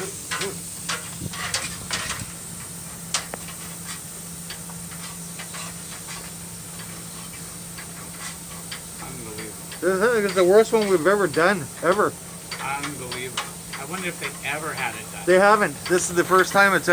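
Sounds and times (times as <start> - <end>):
motor hum with airy hiss: 0.0 - 16.9.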